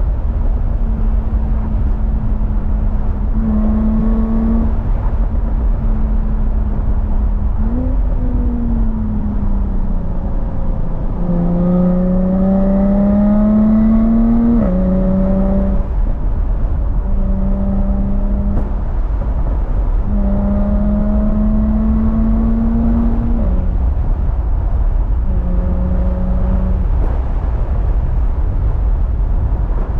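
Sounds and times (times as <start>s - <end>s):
steady low rumble: 0.0s - 12.5s, 13.3s - 29.9s
car engine revving while driving: 0.0s - 29.9s.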